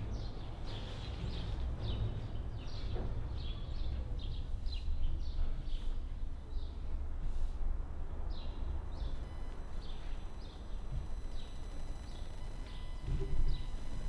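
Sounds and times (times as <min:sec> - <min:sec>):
small birds chirping: 0:00.0 - 0:07.4, 0:08.1 - 0:14.0.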